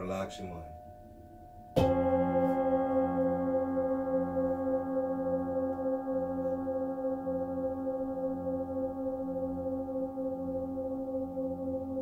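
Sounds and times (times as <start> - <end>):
faint singing bowl ringing: 0.0 - 12.0
singing bowl struck and ringing: 0.0 - 12.0.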